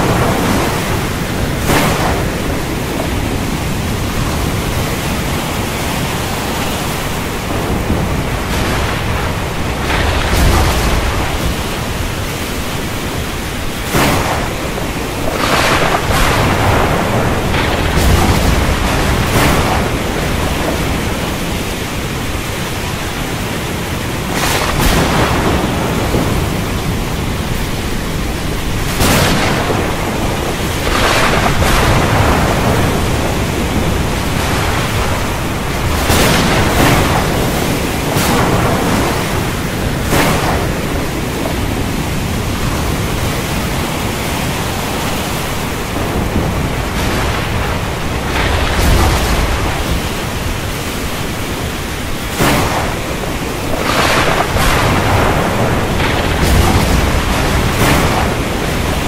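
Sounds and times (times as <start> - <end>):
low rumbles of thunder: 0.0 - 59.0
rain: 0.0 - 59.0
waves breaking: 0.0 - 59.0.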